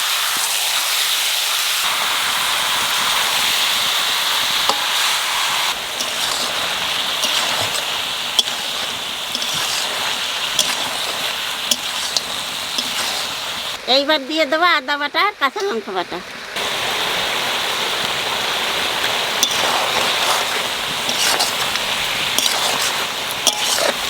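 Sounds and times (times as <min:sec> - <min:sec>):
food sizzling in hot oil: 0:00.0 - 0:14.0, 0:16.6 - 0:24.0.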